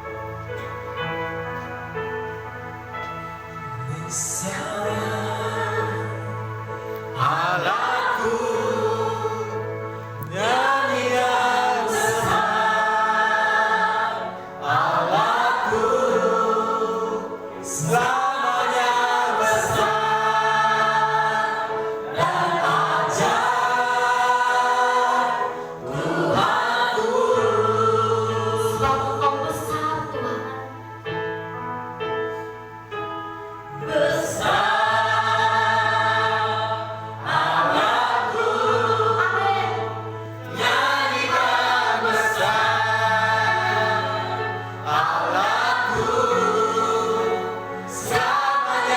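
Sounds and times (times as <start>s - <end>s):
instrumental accompaniment with bass: 0.0s - 48.9s
voices singing a worship song: 2.8s - 31.5s, 32.3s - 48.9s.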